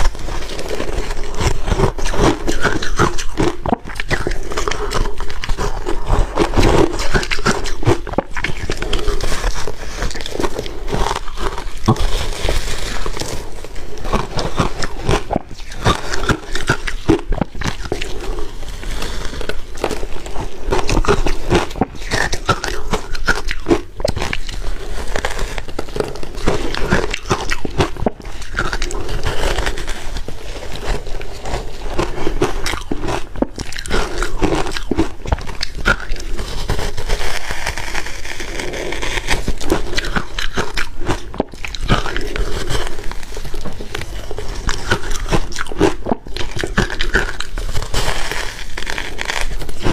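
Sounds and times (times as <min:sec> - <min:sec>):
ice crunching being chewed: 0:00.0 - 0:49.9.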